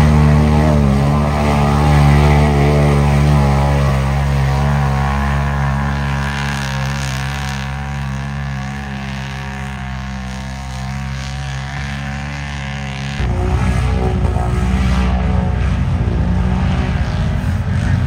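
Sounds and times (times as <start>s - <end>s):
large engine running: 0.0s - 18.0s
rough loud engine: 0.0s - 18.0s.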